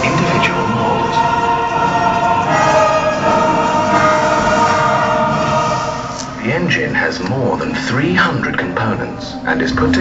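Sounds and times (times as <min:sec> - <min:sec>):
choir-like background music: 0:00.0 - 0:10.0.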